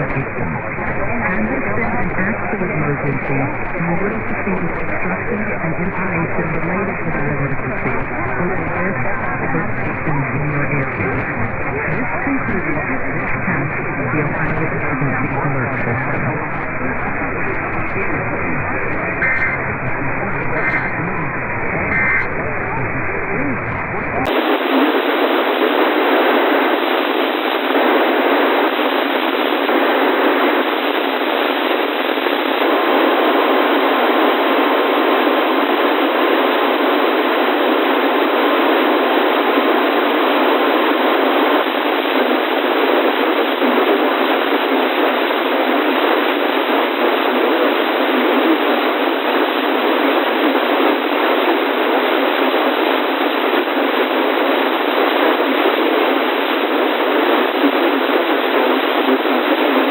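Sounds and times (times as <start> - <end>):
radio static hiss: 0.0 - 59.9.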